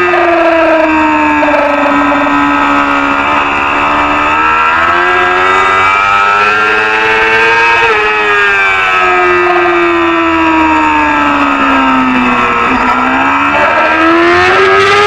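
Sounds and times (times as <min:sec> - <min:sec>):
racing motorcycle engine revving: 0:00.0 - 0:15.0.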